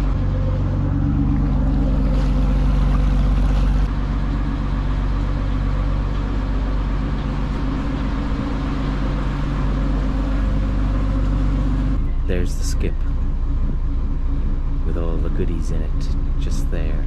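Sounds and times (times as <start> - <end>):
boat diesel engine humming: 0.0 - 17.0.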